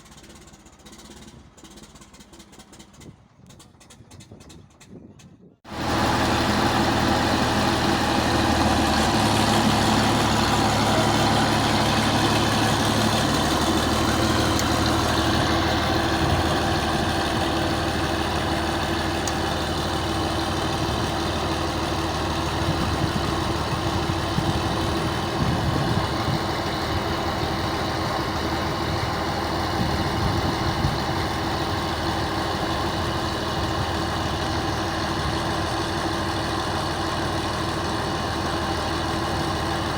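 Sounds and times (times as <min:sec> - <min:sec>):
machine engine idling: 0:05.7 - 0:39.9.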